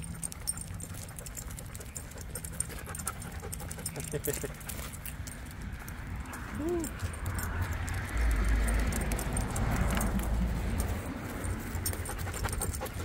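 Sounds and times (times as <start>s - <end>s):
harness hardware jingling: 0.0s - 13.0s.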